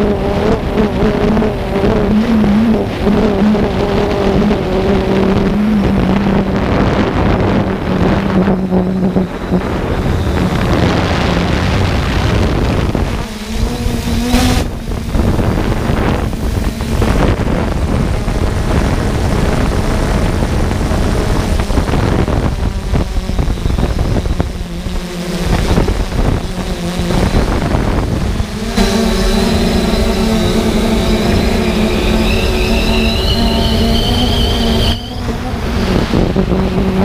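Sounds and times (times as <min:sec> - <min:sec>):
drone motors humming: 0:00.0 - 0:37.0
wind buffeting microphone: 0:00.0 - 0:37.0.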